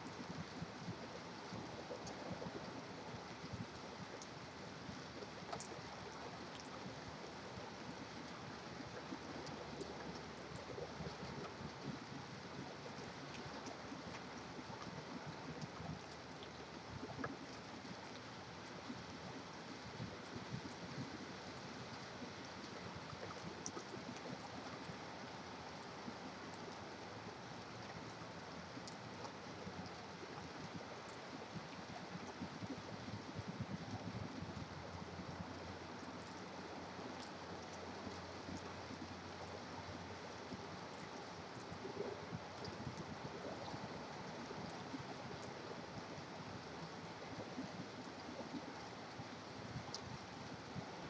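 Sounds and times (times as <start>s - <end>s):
faint dripping ticks: 0.0s - 51.0s.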